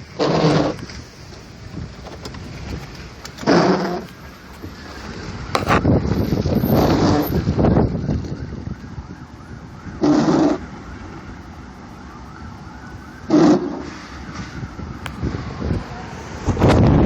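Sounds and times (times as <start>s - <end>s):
distant emergency sirens: 0.0s - 17.0s
road and wind noise: 0.0s - 17.0s.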